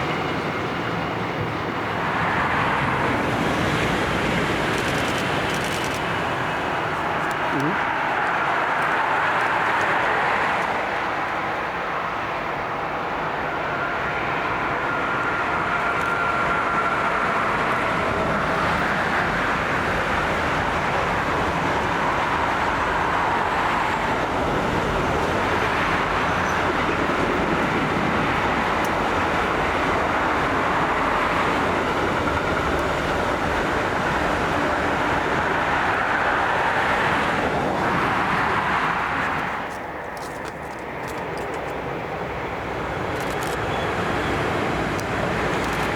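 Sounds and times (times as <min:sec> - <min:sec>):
train wheels rolling on rails: 0:00.0 - 0:45.9.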